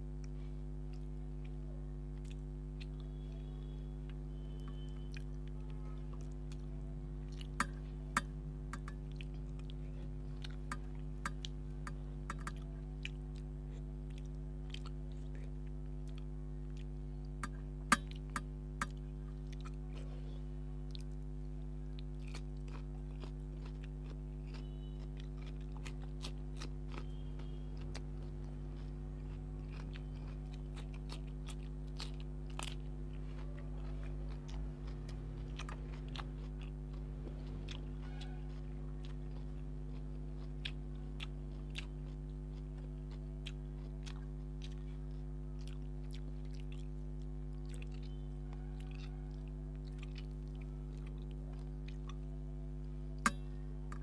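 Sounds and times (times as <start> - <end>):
low electrical hum: 0.0 - 54.0
man chewing with wet mouth clicks: 0.2 - 20.1, 20.8 - 54.0.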